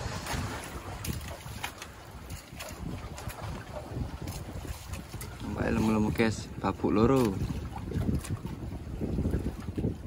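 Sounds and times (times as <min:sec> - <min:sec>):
water slapping against boat: 0:00.0 - 0:10.0
wind buffeting microphone: 0:00.0 - 0:10.0.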